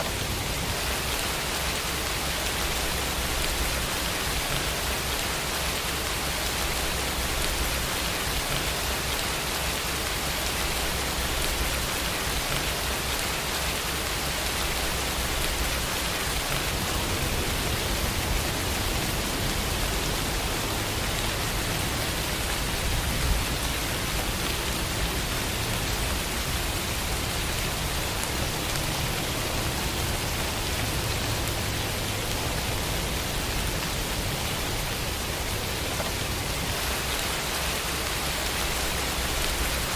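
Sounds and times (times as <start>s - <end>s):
steady rain on surfaces: 0.0s - 39.9s.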